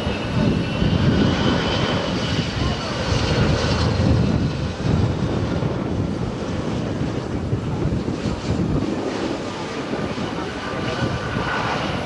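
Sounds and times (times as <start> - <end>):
high jet engine whine: 0.0 - 12.0
jet engine rumble: 0.0 - 12.0
wind buffeting microphone: 0.0 - 12.0.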